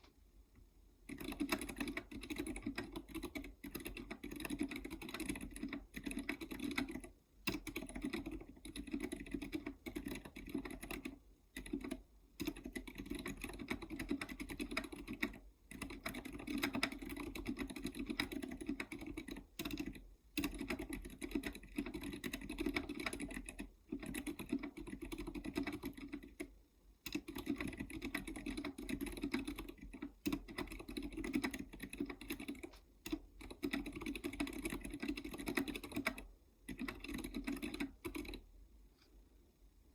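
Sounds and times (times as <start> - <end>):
mechanical keyboard typing: 1.0 - 38.5.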